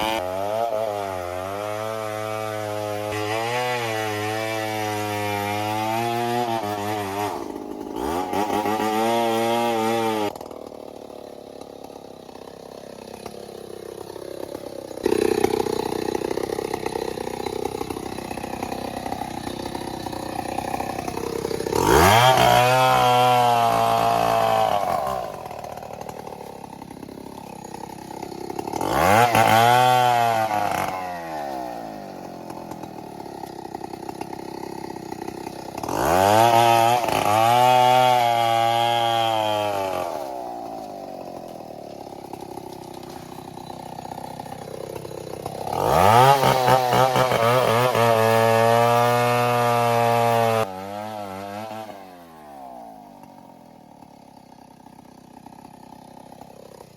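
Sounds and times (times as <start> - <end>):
chainsaw revving: 0.0 - 56.9.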